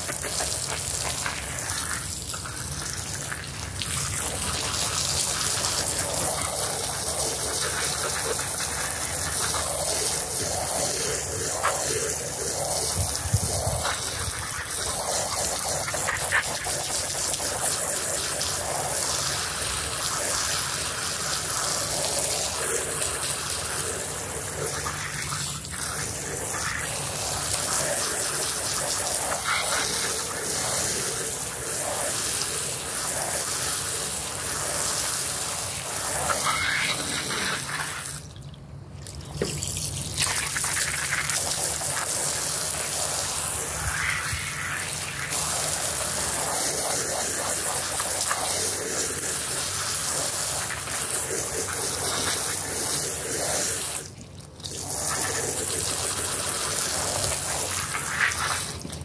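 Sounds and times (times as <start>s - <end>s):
water jet spraying carpet: 0.0s - 38.2s, 39.3s - 59.0s.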